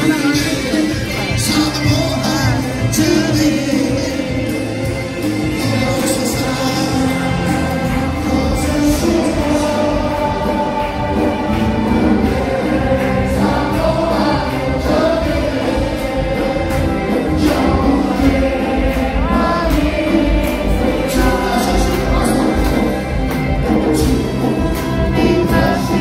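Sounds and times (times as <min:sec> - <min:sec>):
amplified music: 0:00.0 - 0:26.0
congregation singing: 0:00.0 - 0:26.0
hands clapping in a beat: 0:00.0 - 0:26.0.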